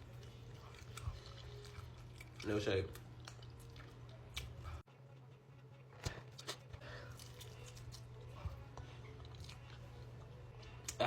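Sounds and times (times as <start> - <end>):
chewing and mouth noises: 0.0 - 11.0.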